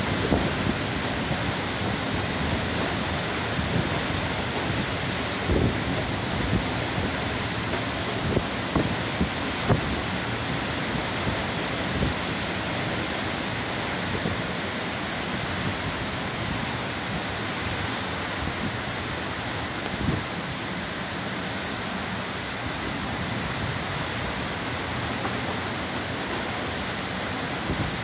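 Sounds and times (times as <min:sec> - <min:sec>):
heavy rain hissing: 0:00.0 - 0:28.0
strong wind: 0:00.0 - 0:28.0.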